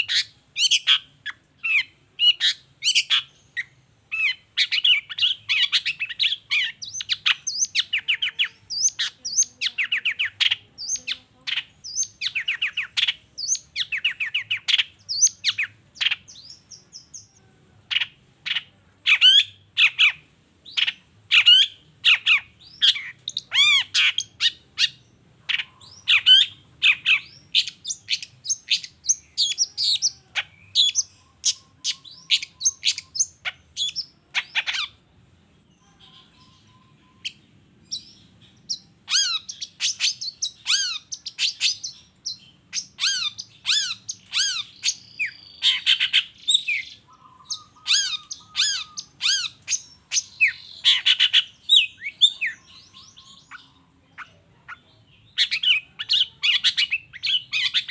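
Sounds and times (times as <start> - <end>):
bird singing sharp chattering calls: 0.0 - 35.0, 35.8 - 57.9.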